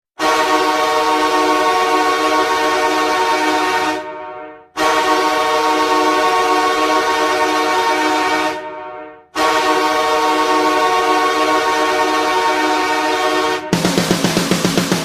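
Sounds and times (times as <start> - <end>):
goal horn blast: 0.2 - 15.0.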